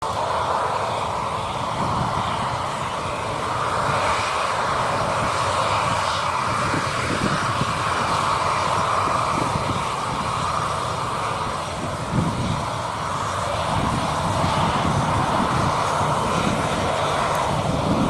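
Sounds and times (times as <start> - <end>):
jet engines running: 0.0 - 18.0
wind buffeting microphone: 0.0 - 18.0.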